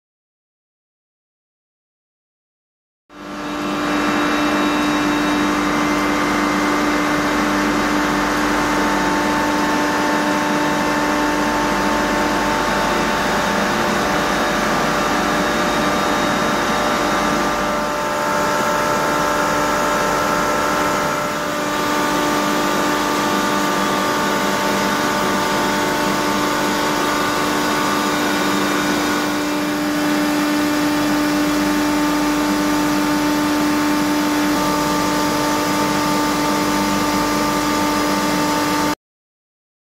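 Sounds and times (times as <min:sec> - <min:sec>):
screw compressor droning: 0:03.4 - 0:36.7.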